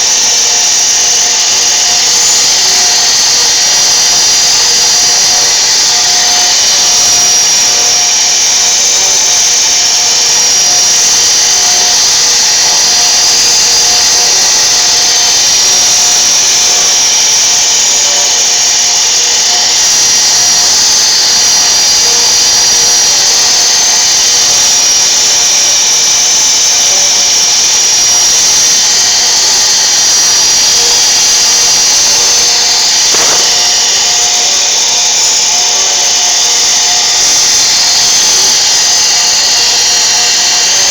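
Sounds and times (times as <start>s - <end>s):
low machine tones: 0.0s - 40.9s
router spindle whining: 0.0s - 40.9s.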